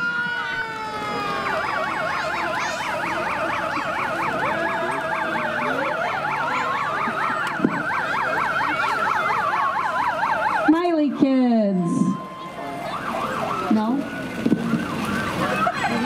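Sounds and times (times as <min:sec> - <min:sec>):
emergency sirens yelping and wailing: 0:00.0 - 0:16.0.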